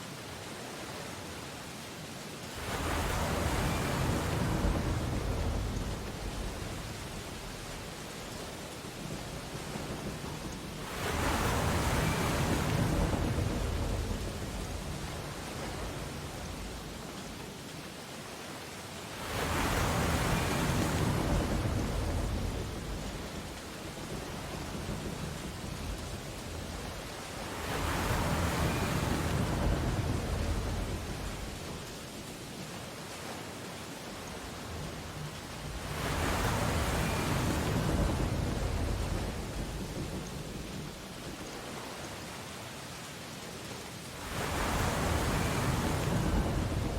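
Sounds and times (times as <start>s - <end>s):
surf hiss: 0.0s - 46.9s
wave breaking on beach: 2.5s - 16.8s, 19.2s - 32.3s, 33.1s - 42.7s, 43.9s - 46.9s.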